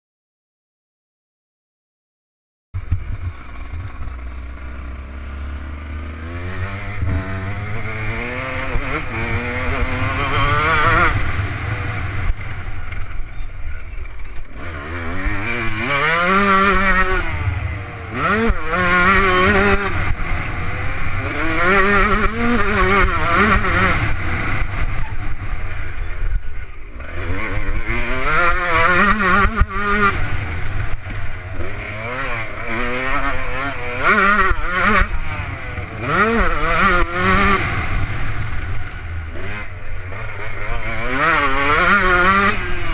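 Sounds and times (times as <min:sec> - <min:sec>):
motocross engine revving: 0:02.8 - 0:42.9.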